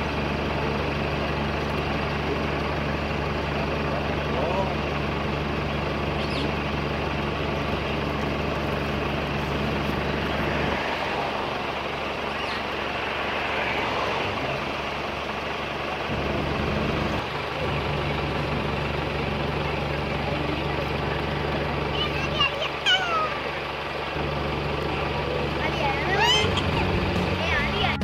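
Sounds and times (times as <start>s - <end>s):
outdoor noise: 0.0s - 28.0s
vehicle engine idling: 0.0s - 28.0s.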